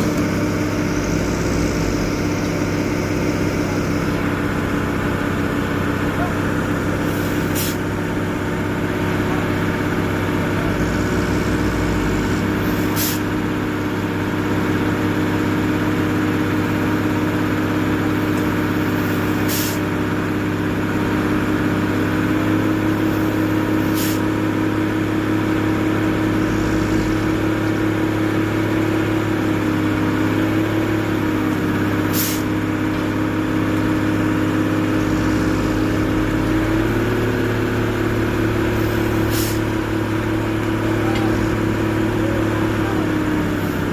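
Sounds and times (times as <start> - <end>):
truck engine running: 0.0 - 43.9.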